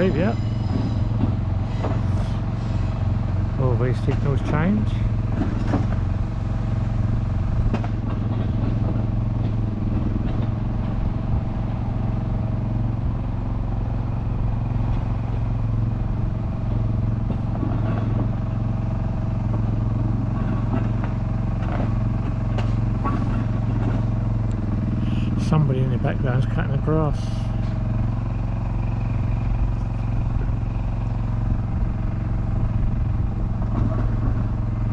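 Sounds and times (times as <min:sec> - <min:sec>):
engine humming steadily: 0:00.0 - 0:34.9.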